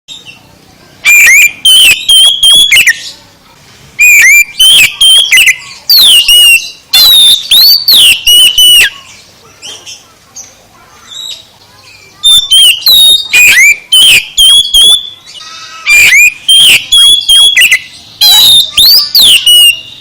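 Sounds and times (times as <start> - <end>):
songbird singing whistled phrases: 1.0 - 3.2, 4.0 - 9.8, 11.0 - 20.0.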